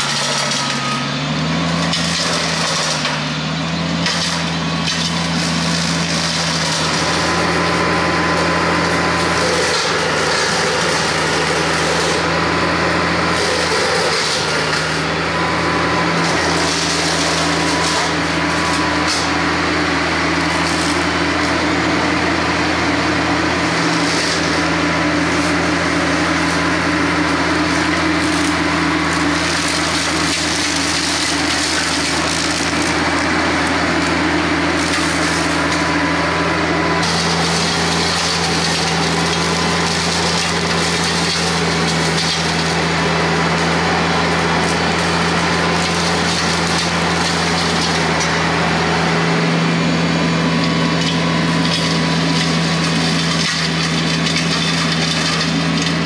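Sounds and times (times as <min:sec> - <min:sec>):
rotary cutter splintering wood: 0:00.0 - 0:56.0
tractor diesel engine under load: 0:00.0 - 0:56.0.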